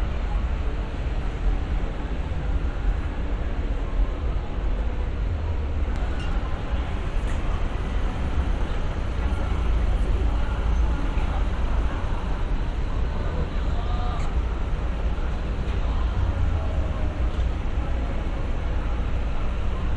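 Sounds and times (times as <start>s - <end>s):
faint voices of passers-by: 0.0s - 19.9s.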